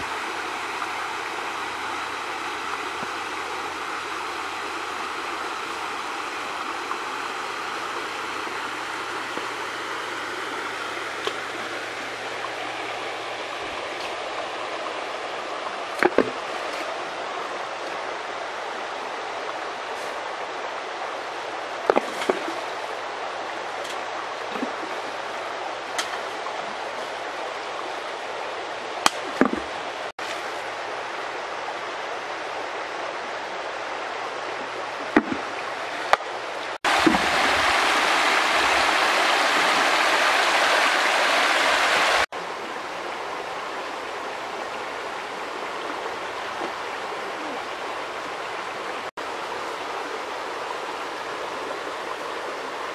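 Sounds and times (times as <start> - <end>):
shallow stream flowing: 0.0 - 52.9.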